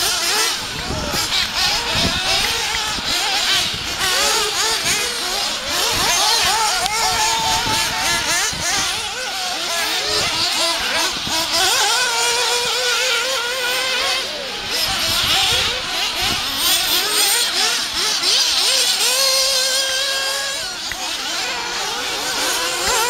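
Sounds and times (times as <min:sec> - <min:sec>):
small engines whining: 0:00.0 - 0:23.0.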